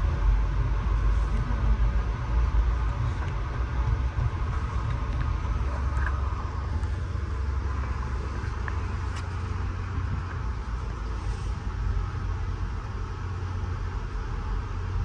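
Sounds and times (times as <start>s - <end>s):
train rumble from inside coach: 0.0s - 15.0s.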